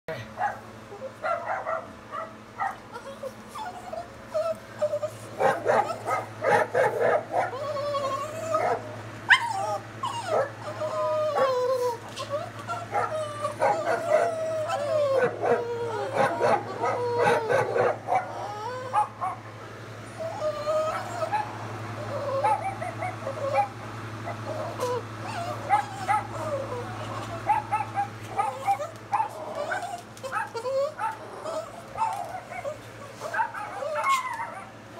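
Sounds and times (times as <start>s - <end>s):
dogs barking and yipping: 0.4s - 34.9s
dogs whining and howling: 0.4s - 34.9s.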